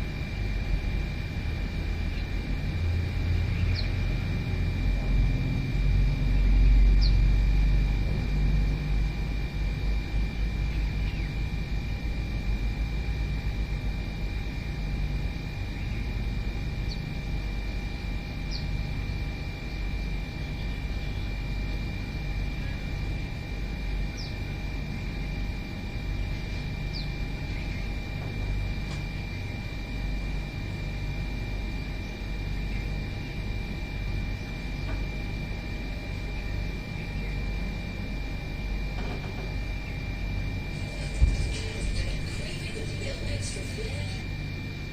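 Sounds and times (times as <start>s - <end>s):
steady low rumble: 0.0s - 44.9s
thin high-pitched hum: 0.0s - 44.9s.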